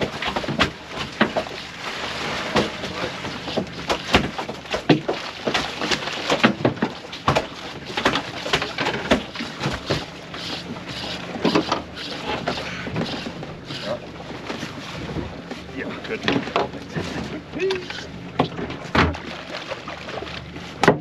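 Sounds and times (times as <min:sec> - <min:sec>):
faint low engine hum: 0:00.0 - 0:21.0
knocks and taps on boat: 0:00.0 - 0:21.0
water splashing: 0:00.0 - 0:21.0.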